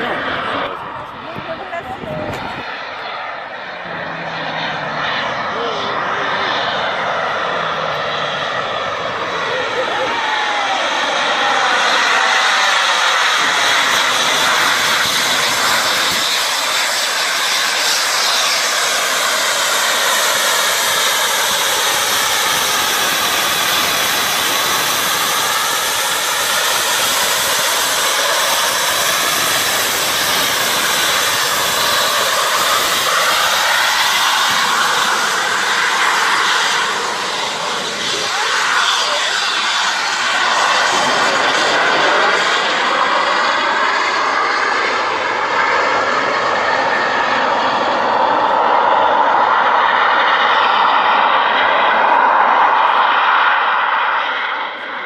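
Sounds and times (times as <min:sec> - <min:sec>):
jet turbines whooshing: 0:00.0 - 0:55.0.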